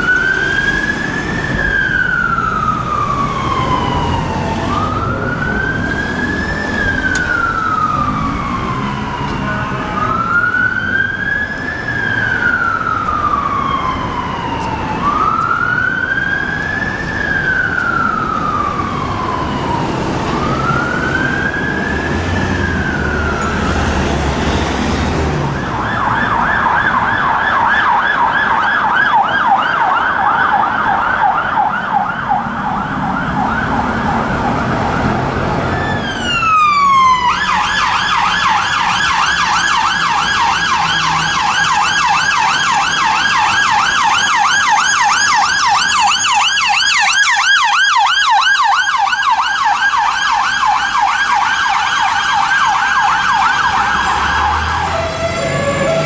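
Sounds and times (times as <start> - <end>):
fire engine siren wailing: 0.0 - 56.0
police sirens yelping: 0.0 - 56.0.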